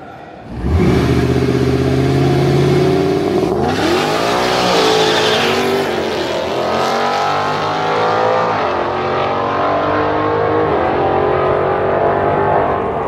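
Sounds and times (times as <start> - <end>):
car engine revving: 0.4 - 13.0.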